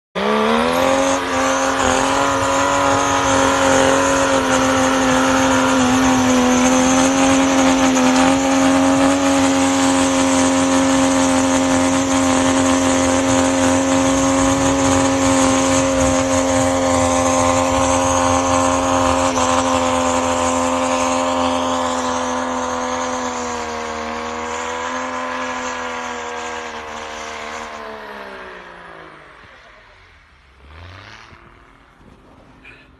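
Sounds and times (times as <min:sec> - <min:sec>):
diesel engine at high revs: 0:00.1 - 0:32.9
wheels spinning in snow: 0:00.2 - 0:32.9.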